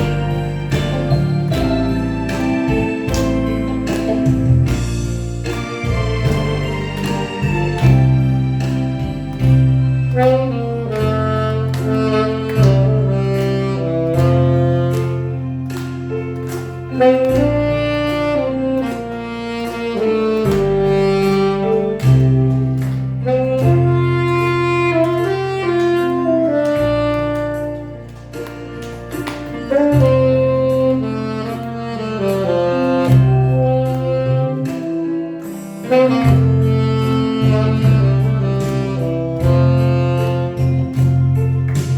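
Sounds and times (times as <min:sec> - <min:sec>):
saxophone melody: 0:00.0 - 0:41.9
sustained bass notes and chords: 0:00.0 - 0:41.9.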